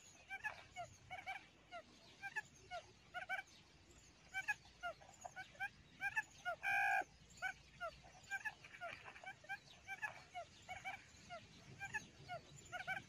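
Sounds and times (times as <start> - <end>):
quail calling: 0.0 - 3.5, 4.3 - 13.0.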